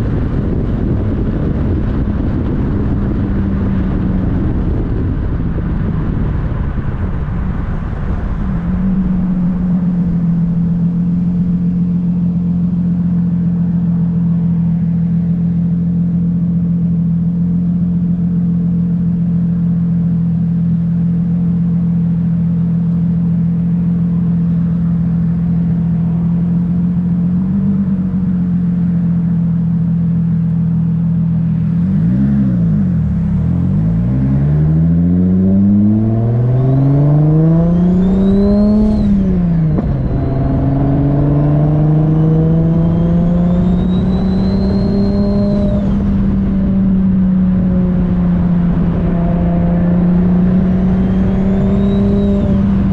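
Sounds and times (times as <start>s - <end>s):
car engine running while driving: 0.0s - 52.9s.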